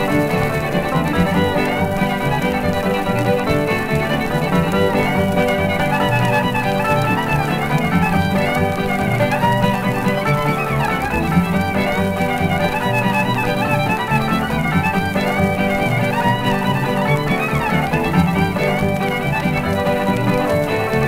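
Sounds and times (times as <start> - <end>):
fiddle tune: 0.0 - 21.0
guitar accompaniment: 0.0 - 21.0.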